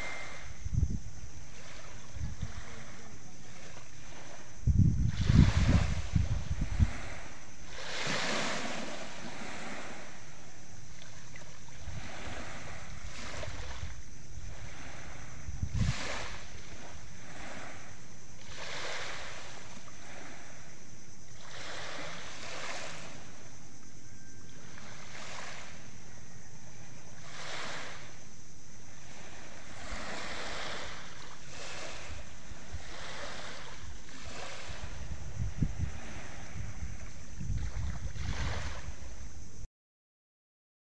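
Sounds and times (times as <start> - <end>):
wind gusts on microphone: 0.0 - 39.7.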